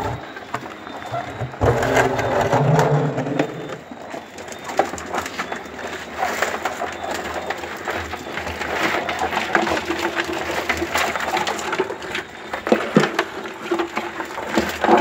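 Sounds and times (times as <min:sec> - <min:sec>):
crabs clicking and scratching: 0:00.0 - 0:15.0.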